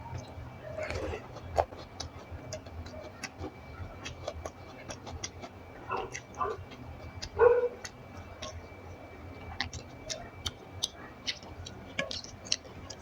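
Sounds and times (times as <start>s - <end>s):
wet mouth smacks while chewing: 0.8s - 8.8s, 9.4s - 13.0s.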